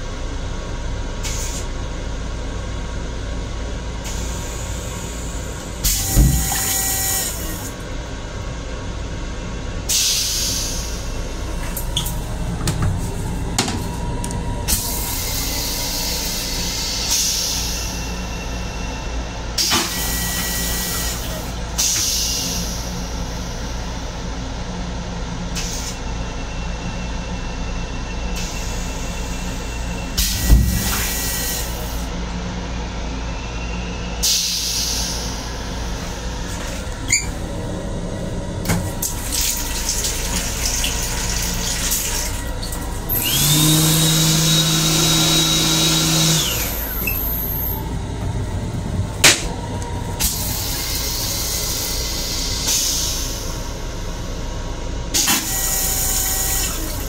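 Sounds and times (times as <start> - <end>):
train low rumble: 0.0 - 43.5, 46.4 - 57.0.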